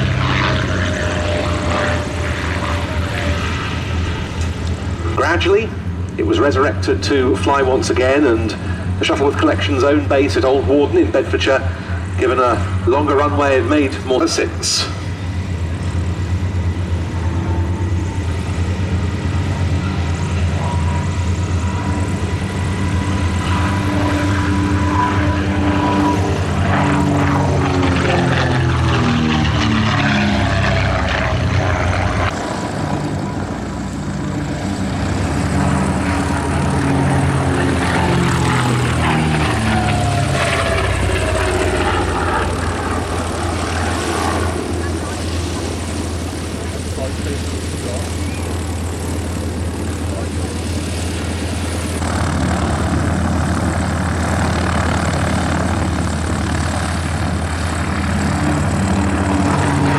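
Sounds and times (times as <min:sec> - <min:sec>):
propeller plane flying past: 0:00.0 - 0:59.9.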